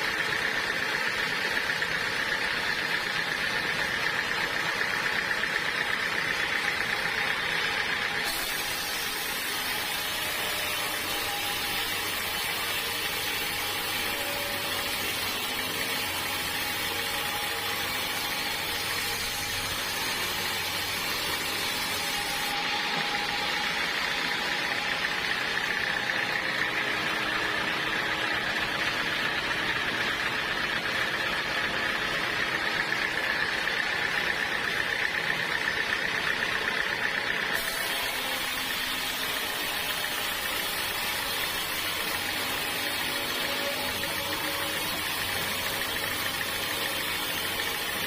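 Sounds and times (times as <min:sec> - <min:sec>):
high steady machine note: 0:00.0 - 0:35.4, 0:37.5 - 0:48.0
sawmill machinery running: 0:00.0 - 0:48.0.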